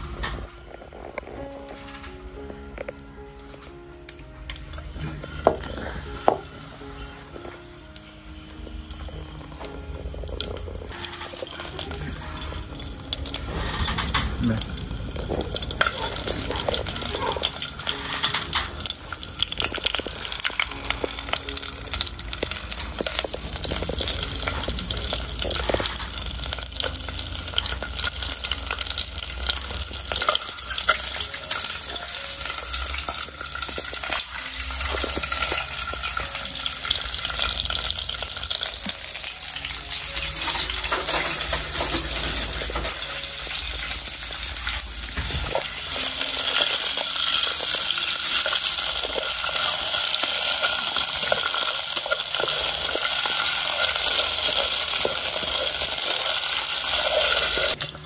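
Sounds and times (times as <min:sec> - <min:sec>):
food frying in hot oil: 0:08.0 - 0:58.0.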